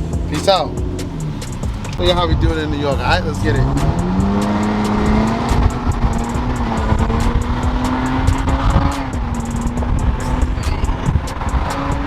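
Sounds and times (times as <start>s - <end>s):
loud car engine accelerating: 0.0s - 12.0s.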